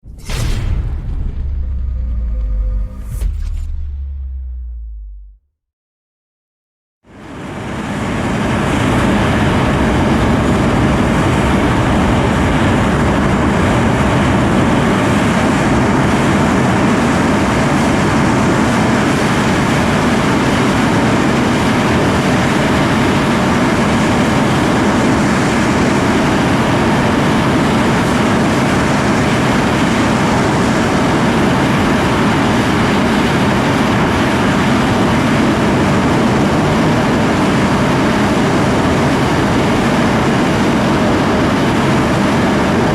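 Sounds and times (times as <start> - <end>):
jet engines roaring: 7.1 - 42.9.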